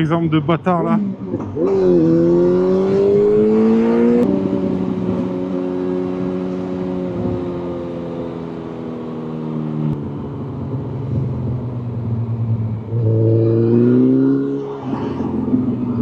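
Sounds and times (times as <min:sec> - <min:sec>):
motorcycle engine accelerating: 0:01.1 - 0:16.0.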